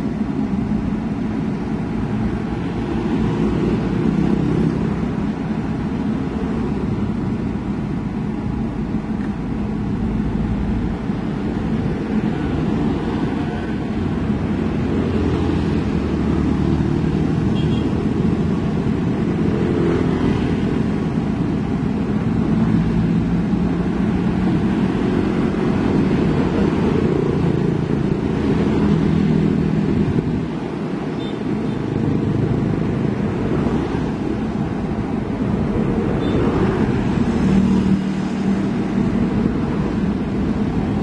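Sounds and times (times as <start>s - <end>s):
heavy diesel machinery rumbling: 0.0s - 41.0s
passing road traffic: 0.0s - 41.0s.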